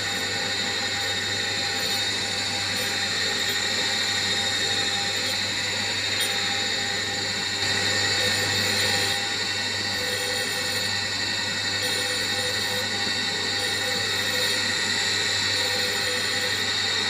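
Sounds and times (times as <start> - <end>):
surface grinder humming and hissing: 0.0 - 17.0.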